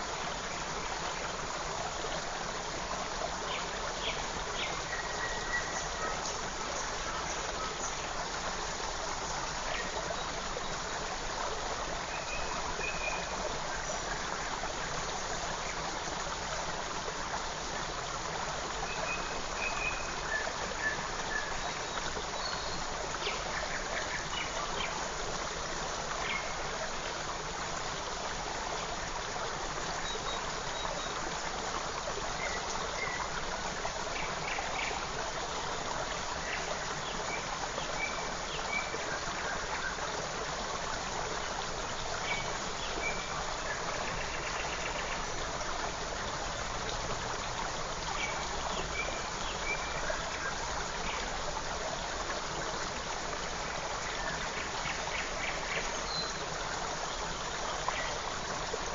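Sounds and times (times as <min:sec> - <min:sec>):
stream babbling: 0:00.0 - 0:58.9.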